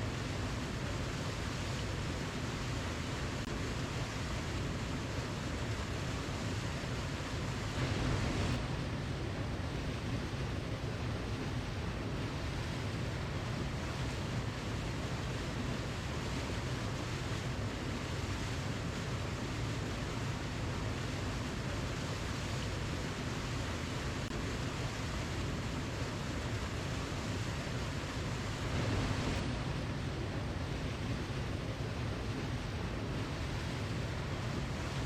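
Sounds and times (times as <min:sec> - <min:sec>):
waterfall roar: 0:00.0 - 0:35.0.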